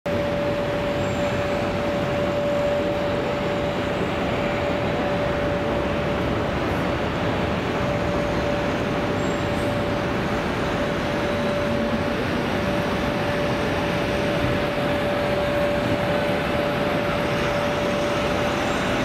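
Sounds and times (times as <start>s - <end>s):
jet engines idling: 0.1s - 19.0s.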